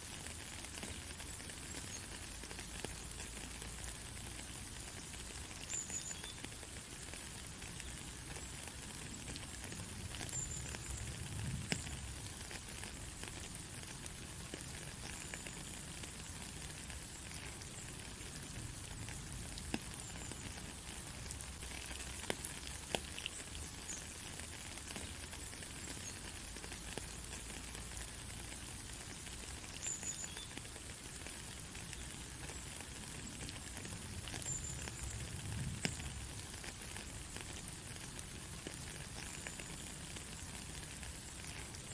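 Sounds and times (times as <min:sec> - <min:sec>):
sharp ticks of raindrops: 0:00.0 - 0:41.9
steady rain hiss: 0:00.0 - 0:41.9.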